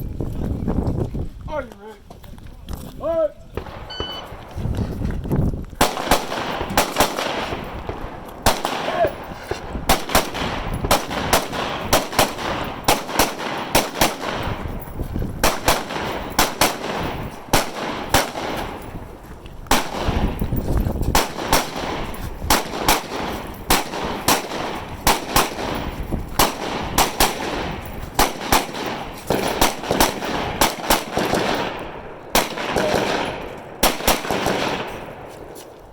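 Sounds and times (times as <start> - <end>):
rifles firing with echo: 3.5 - 4.6, 5.8 - 35.8.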